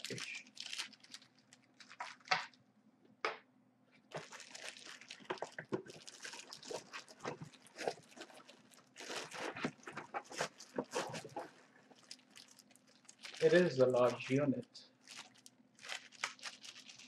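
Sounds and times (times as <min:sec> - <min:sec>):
plastic bags crinkling: 0:00.0 - 0:02.6, 0:04.1 - 0:17.0.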